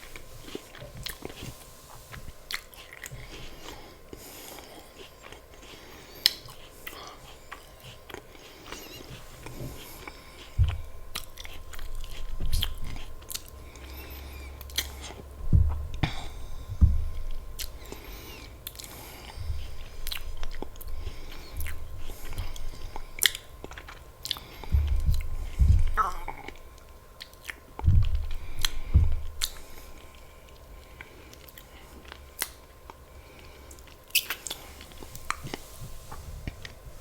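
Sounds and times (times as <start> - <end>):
dull thuds of chewing: 0.0 - 37.0.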